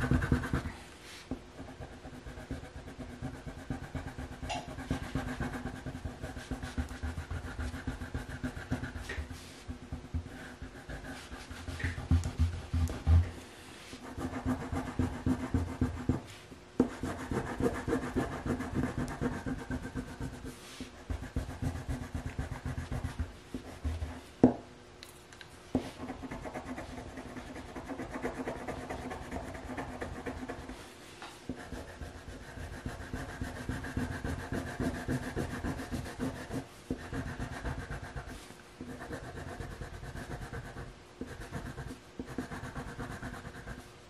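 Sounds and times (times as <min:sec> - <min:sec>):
crayon scribbling on paper: 0:00.0 - 0:00.7, 0:01.6 - 0:13.2, 0:13.9 - 0:16.2, 0:16.8 - 0:20.5, 0:21.1 - 0:24.2, 0:25.8 - 0:30.8, 0:31.5 - 0:43.8.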